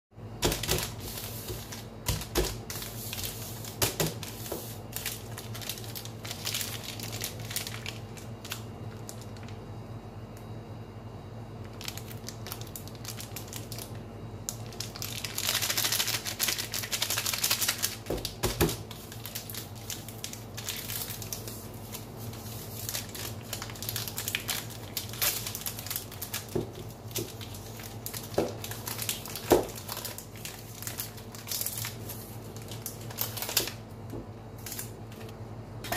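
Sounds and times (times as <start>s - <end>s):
plastic wrapper crinkling: 0.4s - 9.6s, 11.6s - 35.9s.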